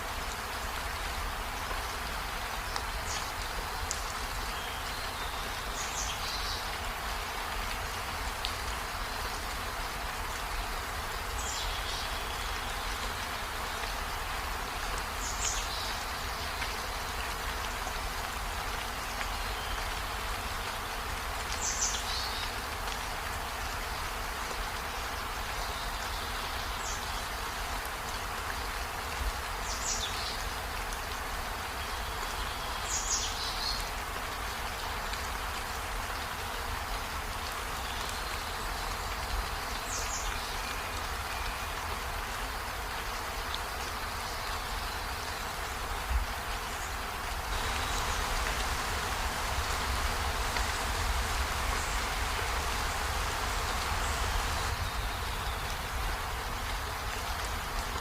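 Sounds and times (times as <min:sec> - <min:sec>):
rain pattering on leaves: 0:00.0 - 0:58.0.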